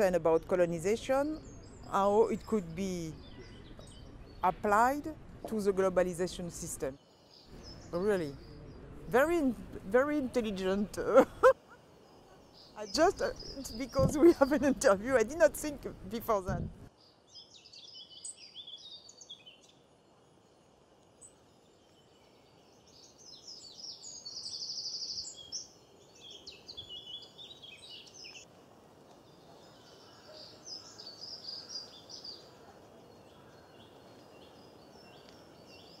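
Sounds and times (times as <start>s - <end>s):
outdoor ambience: 0.0s - 36.0s
songbirds chirping and singing: 0.8s - 11.1s, 12.1s - 19.9s, 21.2s - 28.5s, 29.1s - 36.0s.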